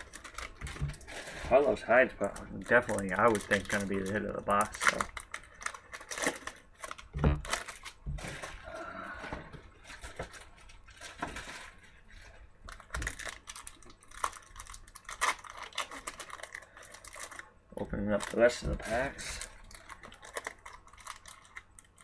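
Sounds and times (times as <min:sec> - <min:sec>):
wrappers crinkling and tearing: 0:00.0 - 0:22.0.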